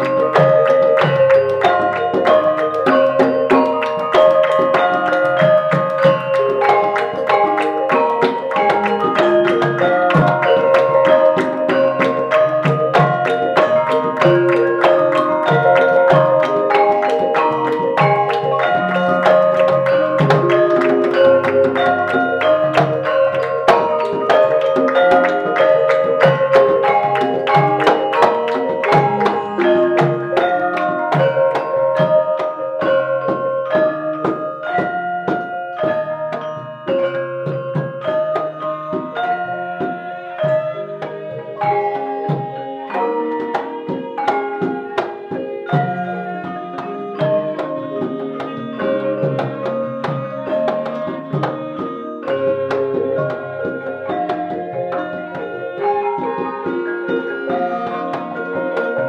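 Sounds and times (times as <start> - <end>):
gamelan ensemble playing: 0.0 - 59.0.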